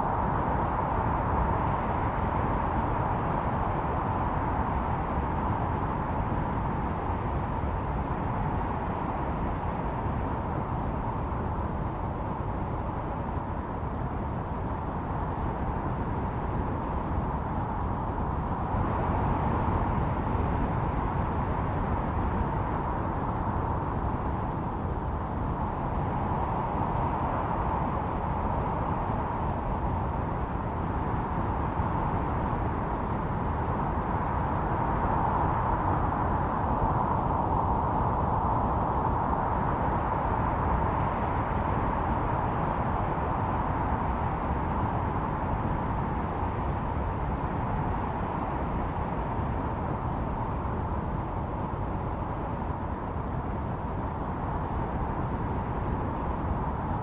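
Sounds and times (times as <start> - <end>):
howling blizzard wind: 0.0 - 57.0.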